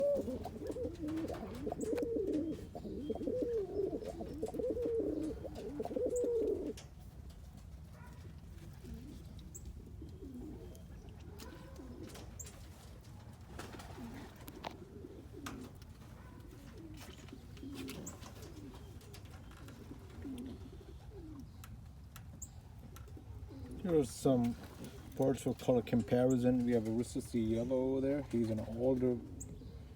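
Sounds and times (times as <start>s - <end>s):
pigeons cooing: 0.0s - 29.9s.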